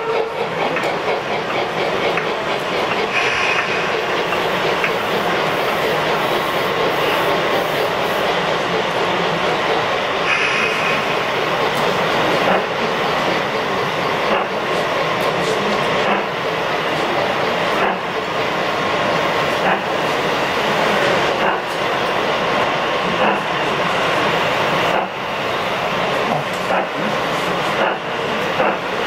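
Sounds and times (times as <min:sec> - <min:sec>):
model steam locomotive running: 0:00.0 - 0:29.0.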